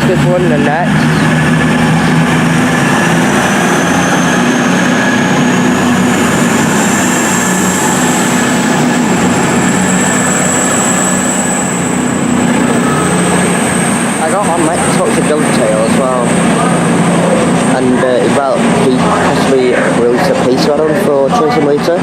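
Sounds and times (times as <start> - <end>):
high thin whine rising: 0.0 - 22.0
train low hum: 0.0 - 22.0.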